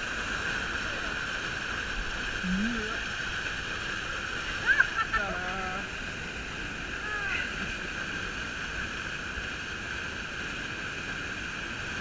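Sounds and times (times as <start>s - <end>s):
waterfall rushing into pool: 0.0s - 12.0s
white water churning: 0.0s - 12.0s.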